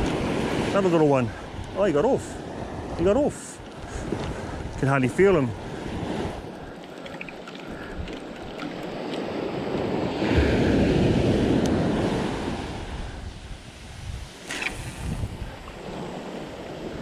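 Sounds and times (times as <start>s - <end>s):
surf washing up a beach: 0.0s - 17.0s
wind on the microphone: 0.0s - 17.0s.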